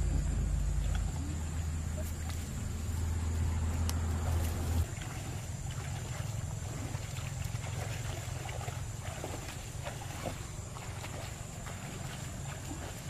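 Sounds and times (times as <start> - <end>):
low steady rumble: 0.0 - 13.0
feet wading through shallow water: 0.5 - 13.0.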